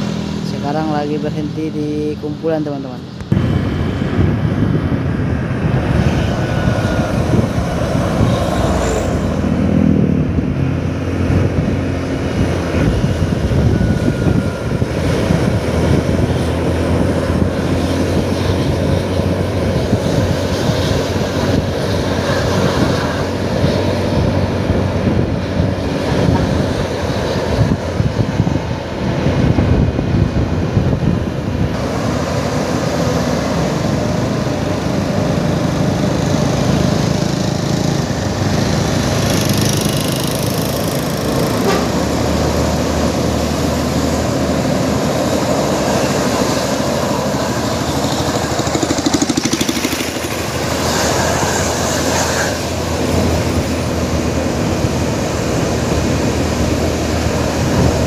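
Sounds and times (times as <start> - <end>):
engines droning: 0.0 - 58.0
wind rushing on microphone: 0.0 - 58.0.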